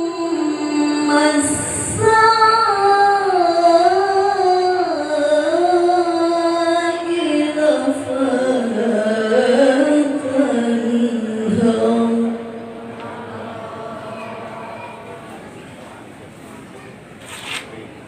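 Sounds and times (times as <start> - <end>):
person reciting melodically: 0.0 - 16.0.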